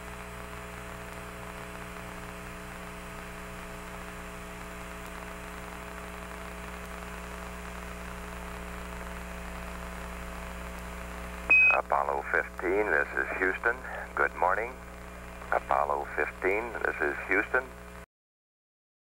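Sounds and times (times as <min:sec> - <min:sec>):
electrical hum: 0:00.0 - 0:18.0
radio static hiss: 0:00.0 - 0:18.1.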